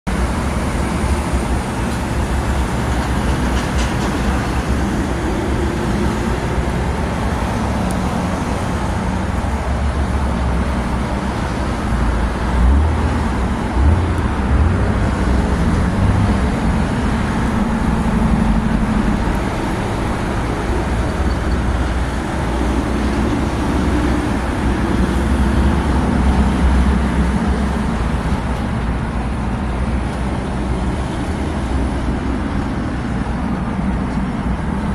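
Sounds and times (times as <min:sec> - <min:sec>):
road traffic rushing: 0:00.0 - 0:34.9.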